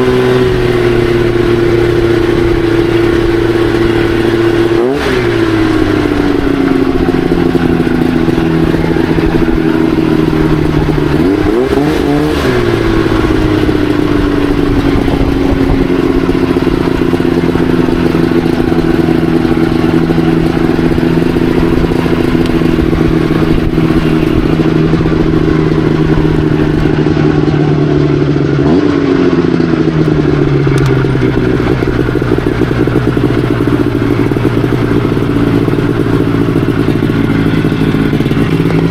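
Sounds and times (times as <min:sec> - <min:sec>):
buggy engine revving: 0:00.0 - 0:38.9.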